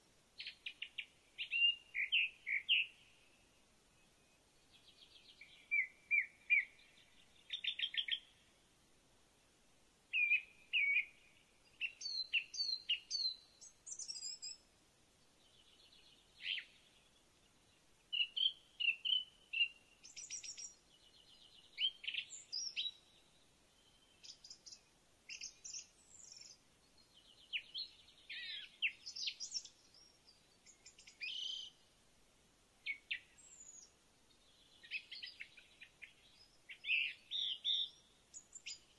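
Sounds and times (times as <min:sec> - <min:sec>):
birds singing: 0:00.4 - 0:03.4, 0:04.0 - 0:08.4, 0:10.1 - 0:14.6, 0:15.4 - 0:31.8, 0:32.8 - 0:38.9.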